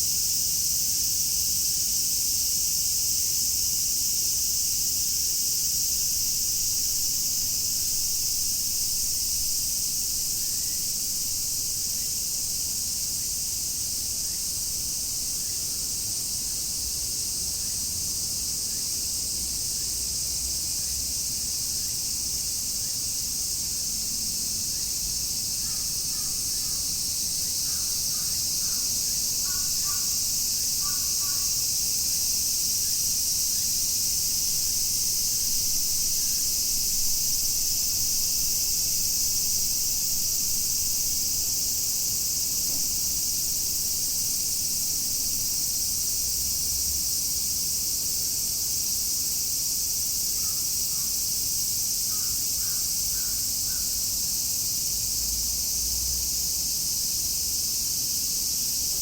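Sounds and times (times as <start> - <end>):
cicadas singing: 0.0 - 59.0.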